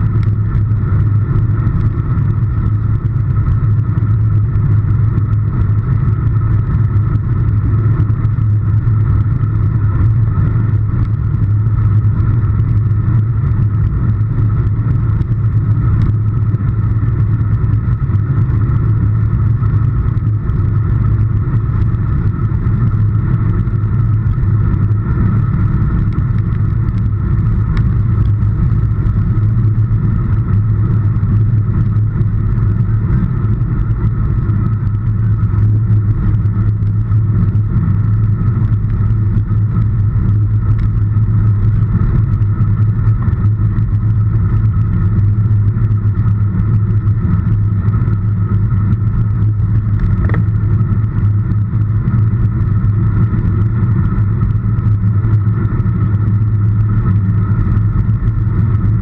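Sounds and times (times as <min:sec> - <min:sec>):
wind rumble: 0:00.0 - 0:59.0.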